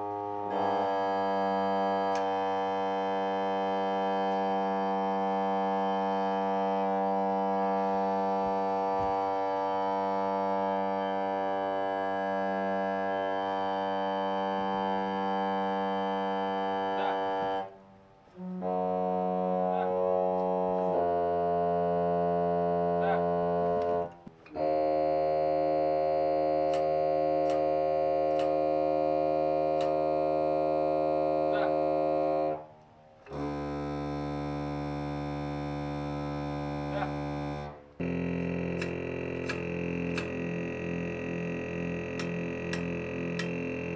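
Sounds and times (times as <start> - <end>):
pipe organ chords: 0.0 - 43.9.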